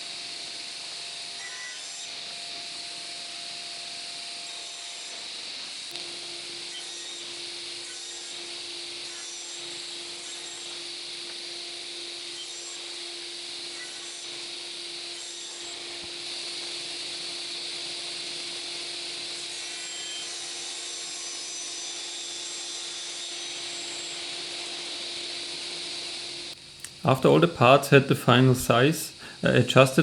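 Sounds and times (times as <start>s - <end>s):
table saw cutting plywood: 0.0s - 30.0s.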